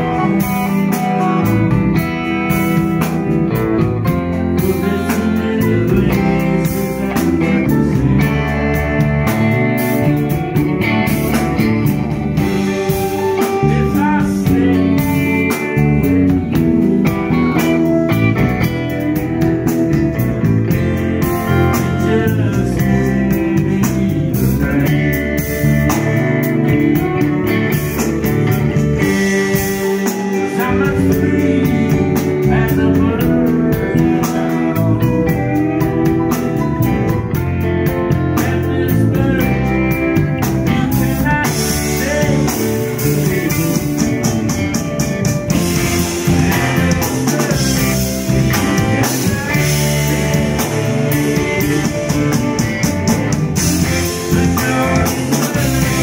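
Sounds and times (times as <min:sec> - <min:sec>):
electric guitar: 0:00.0 - 0:56.0
live blues-rock band: 0:00.0 - 0:56.0.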